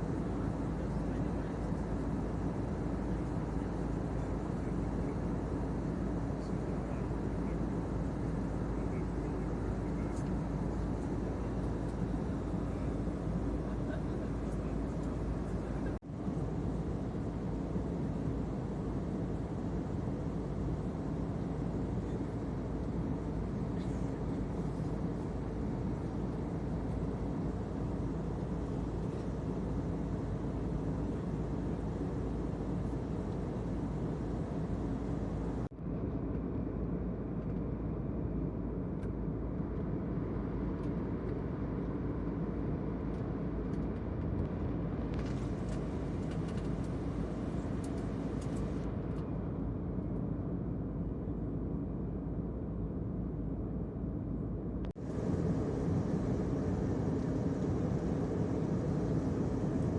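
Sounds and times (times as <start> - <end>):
airliner cabin rumble: 0.0 - 51.9, 53.2 - 59.9.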